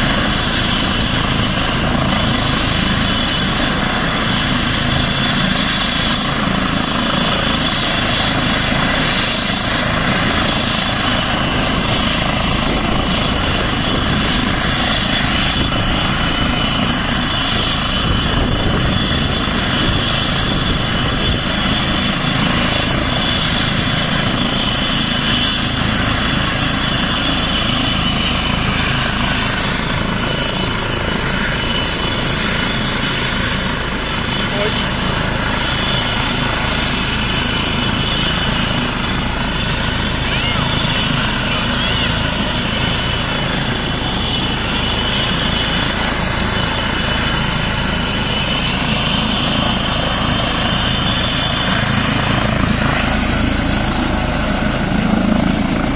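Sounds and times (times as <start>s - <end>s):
helicopter turbine and rotor: 0.0s - 55.9s.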